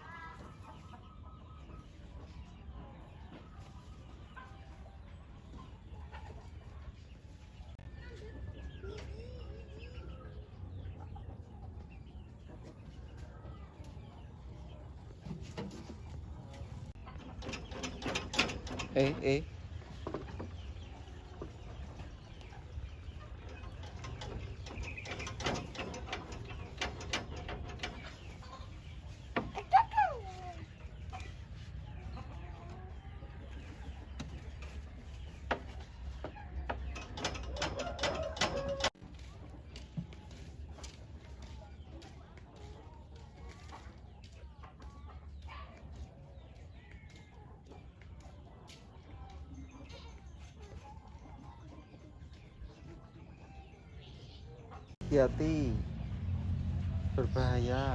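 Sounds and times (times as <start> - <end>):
chickens calling: 0.0 - 57.9.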